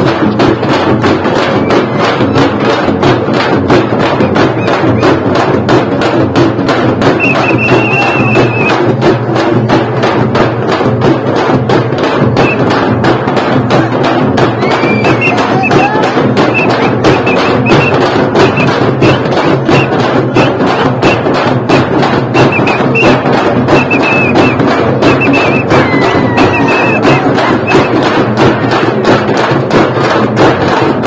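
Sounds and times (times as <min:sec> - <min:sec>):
frame drums beaten with sticks: 0:00.0 - 0:31.0.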